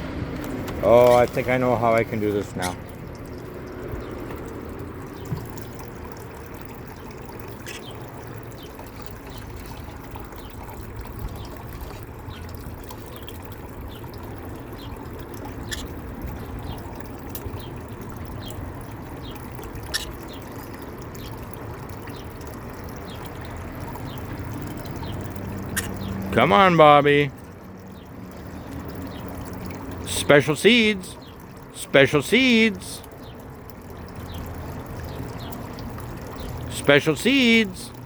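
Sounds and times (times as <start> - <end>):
water trickling: 0.0 - 38.0.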